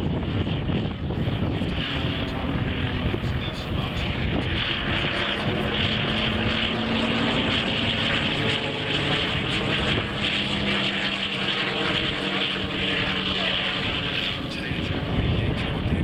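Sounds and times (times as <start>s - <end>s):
propeller aircraft engine drone: 0.0s - 16.0s.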